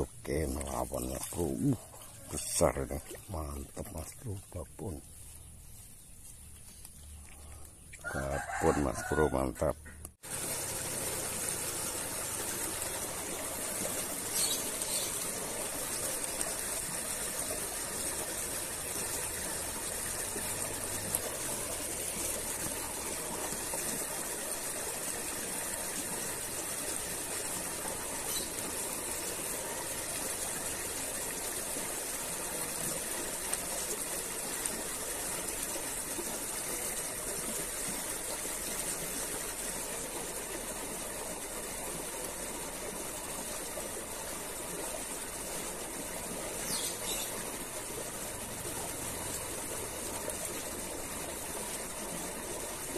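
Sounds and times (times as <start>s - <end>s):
outdoor background hiss: 0.0s - 52.9s.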